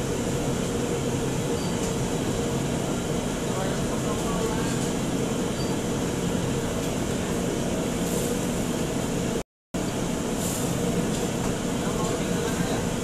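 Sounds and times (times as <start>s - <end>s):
exhaust hood fan: 0.0s - 13.0s
gas burners roaring: 0.0s - 13.0s.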